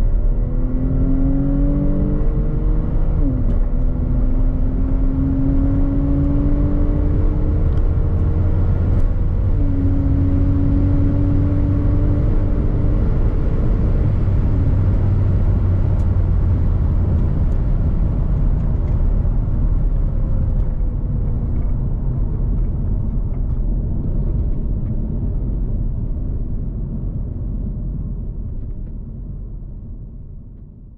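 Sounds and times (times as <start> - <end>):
car engine accelerating: 0.0 - 29.9
road and wind rumble: 0.0 - 30.9.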